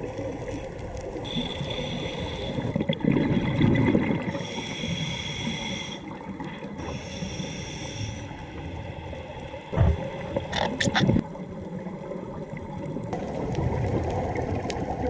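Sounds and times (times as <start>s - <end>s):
scuba exhaust bubbles gurgling: 0.0s - 15.0s
underwater rumble: 0.0s - 15.0s.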